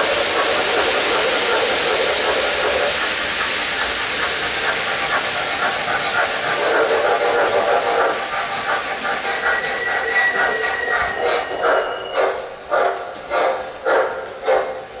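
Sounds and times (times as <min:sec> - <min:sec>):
model locomotive steam hiss: 0:00.0 - 0:15.0
model train cars rolling: 0:00.0 - 0:15.0.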